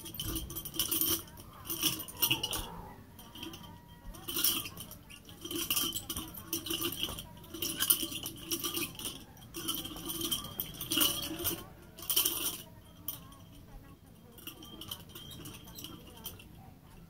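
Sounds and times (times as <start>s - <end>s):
nunchaku chain rattling: 0.0s - 16.6s.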